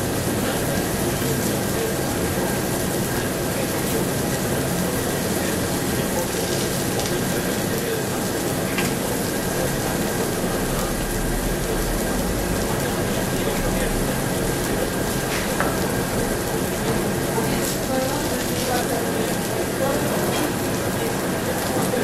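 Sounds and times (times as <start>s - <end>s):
meat sizzling on grill: 0.0s - 22.0s.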